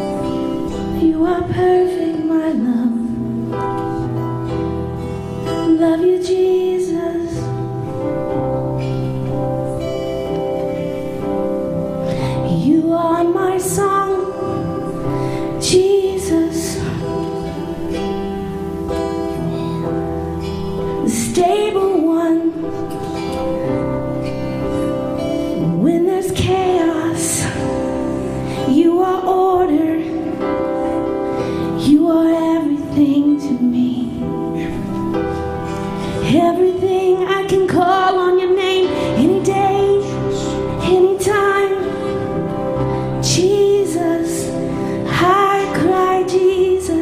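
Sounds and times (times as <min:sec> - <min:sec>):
guitar: 0:00.0 - 0:47.0
keyboard chords: 0:00.0 - 0:47.0.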